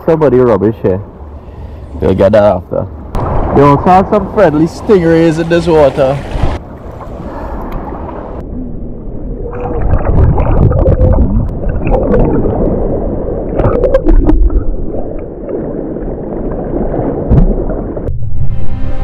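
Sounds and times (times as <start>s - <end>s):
water sloshing and gurgling: 1.0s - 18.7s.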